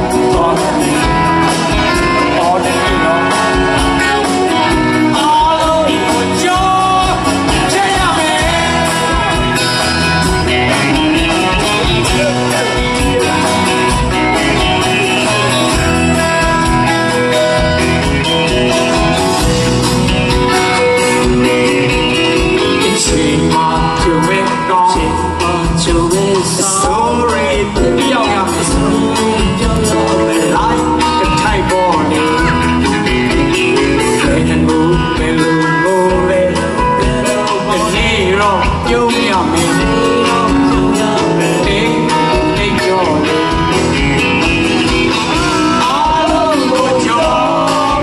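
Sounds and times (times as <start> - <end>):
acoustic guitar: 0.0 - 48.0
bass and drums beat: 0.0 - 48.0
man singing: 0.0 - 48.0.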